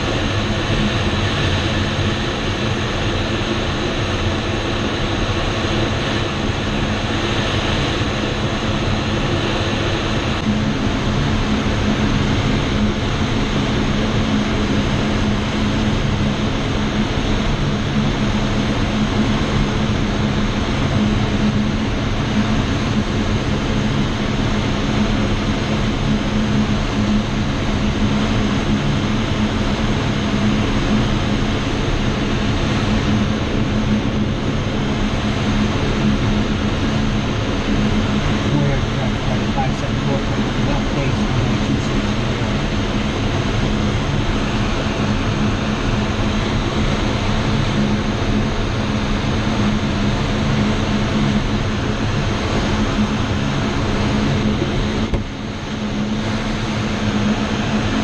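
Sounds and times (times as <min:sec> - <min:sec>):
airflow rushing over canopy: 0:00.0 - 0:58.0
low hum: 0:00.0 - 0:58.0.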